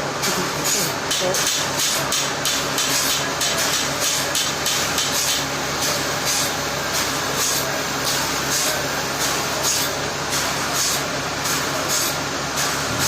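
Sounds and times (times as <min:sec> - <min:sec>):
machinery humming: 0:00.0 - 0:13.0
high-pitched rhythmic clatter: 0:00.2 - 0:12.8.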